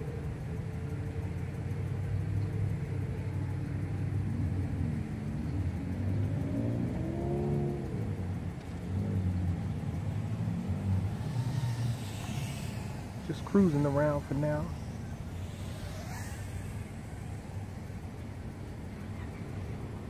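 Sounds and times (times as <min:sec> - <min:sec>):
drone motors buzzing: 0:00.0 - 0:20.0
low steady rumble: 0:00.0 - 0:20.0.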